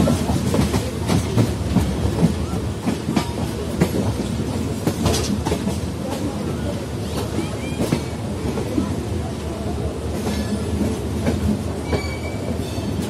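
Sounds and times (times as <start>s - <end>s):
train low rumble: 0.0s - 13.0s
train wheels clickety-clack: 0.0s - 13.0s.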